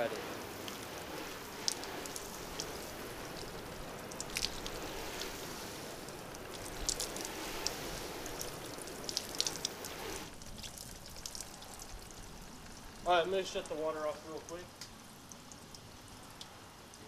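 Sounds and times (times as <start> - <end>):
water spraying on car hood: 0.0 - 17.0
water drops ticking: 1.6 - 5.4, 6.0 - 17.0.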